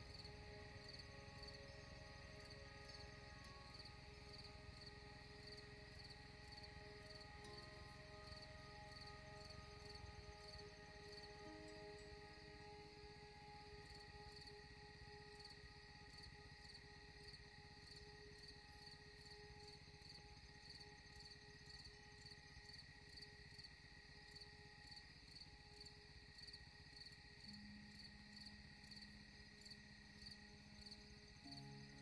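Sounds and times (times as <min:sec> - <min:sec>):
insect chirping: 0:00.0 - 0:32.0.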